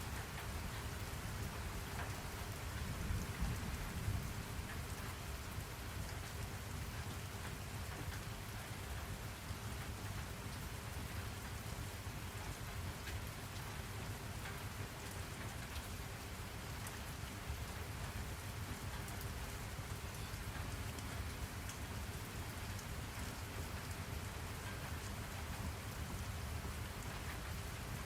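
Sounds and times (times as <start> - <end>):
raindrops ticking on a surface: 0.0 - 28.0.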